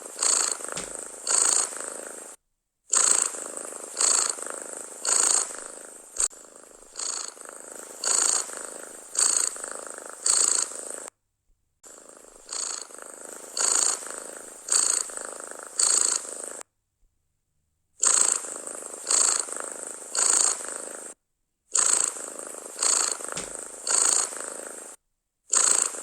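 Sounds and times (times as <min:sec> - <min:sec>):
cat purring: 0:00.0 - 0:11.1, 0:11.8 - 0:16.7, 0:18.0 - 0:26.0.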